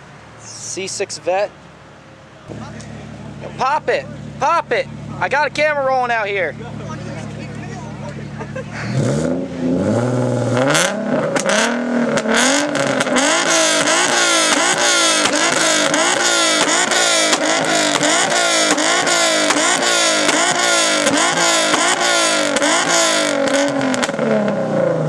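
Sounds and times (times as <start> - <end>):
car engine revving: 0.0 - 25.0
exhaust pops and crackles: 2.4 - 24.6.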